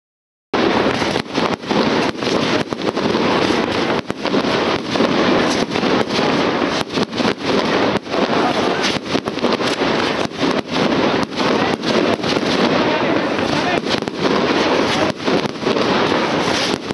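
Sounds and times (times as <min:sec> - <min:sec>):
fireworks crackling: 0:00.6 - 0:16.9.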